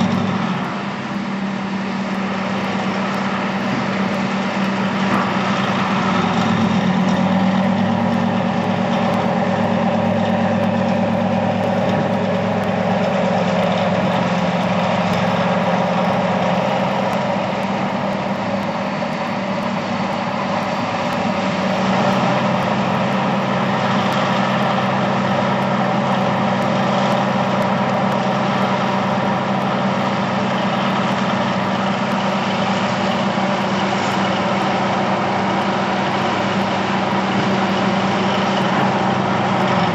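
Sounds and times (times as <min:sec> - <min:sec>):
simulated diesel engine running: 0:00.0 - 0:39.9.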